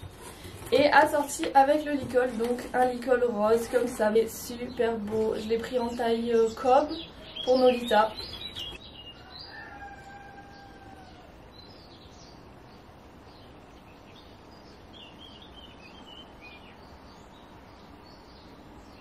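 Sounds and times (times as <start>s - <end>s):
outdoor background noise: 0.0s - 19.0s
small birds chirping: 0.0s - 19.0s.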